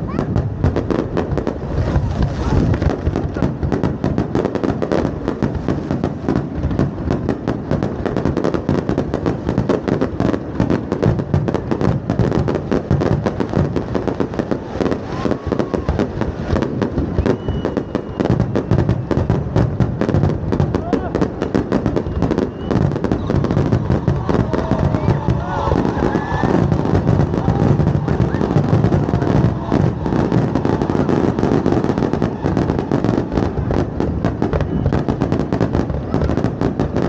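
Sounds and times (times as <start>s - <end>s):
fireworks bangs and pops: 0.0s - 37.0s.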